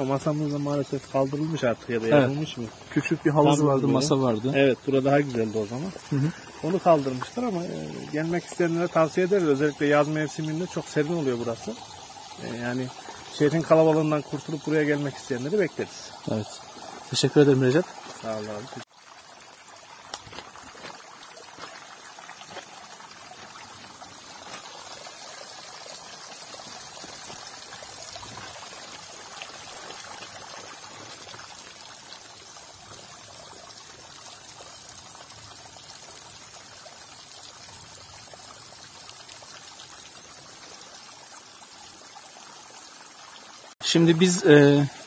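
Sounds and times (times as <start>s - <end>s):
water trickling and dripping: 0.0s - 45.0s.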